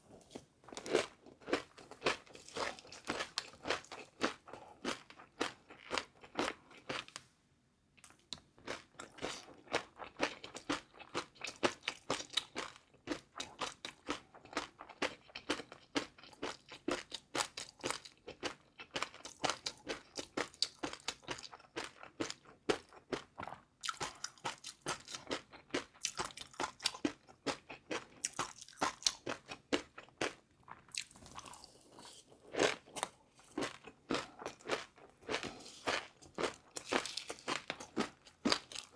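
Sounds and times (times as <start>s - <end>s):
chewing crunchy food: 0.1s - 7.2s, 8.0s - 38.9s.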